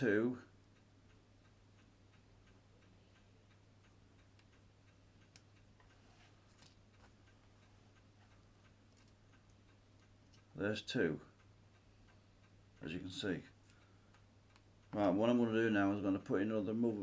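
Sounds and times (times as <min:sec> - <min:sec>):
pocket watch ticking: 0:00.7 - 0:16.8.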